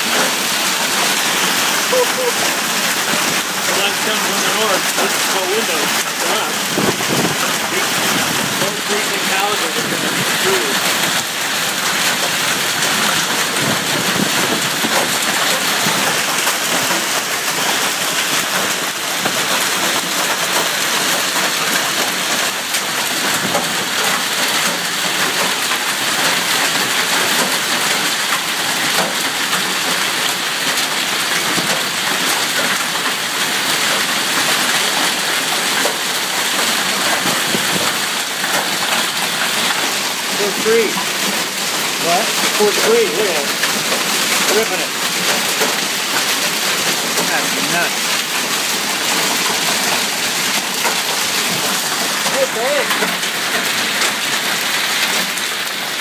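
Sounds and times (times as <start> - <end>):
hail and rain clattering: 0.0 - 56.0.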